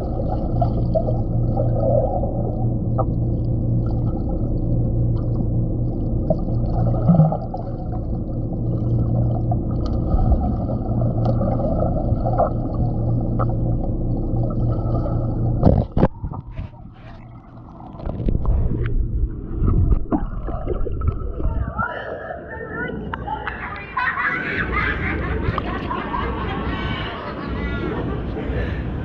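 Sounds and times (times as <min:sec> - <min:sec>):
low hum: 0:00.0 - 0:29.0
muffled underwater rush: 0:00.0 - 0:29.0.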